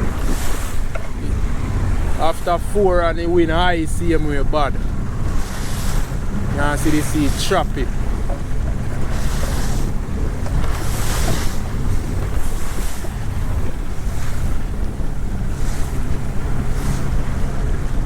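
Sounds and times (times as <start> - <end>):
waves slapping boat hull: 0.0 - 18.0
wind buffeting microphone: 0.0 - 18.0.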